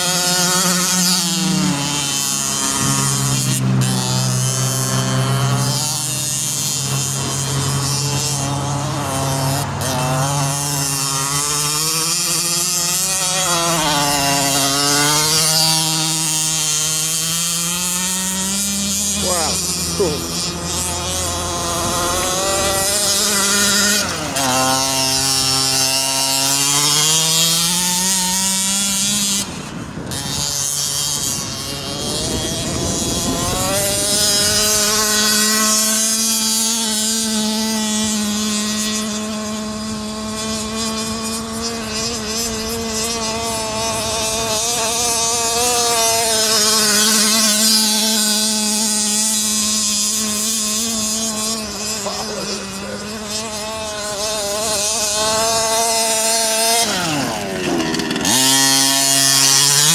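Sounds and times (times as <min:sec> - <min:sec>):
rc truck engine at high revs: 0:00.0 - 0:59.9.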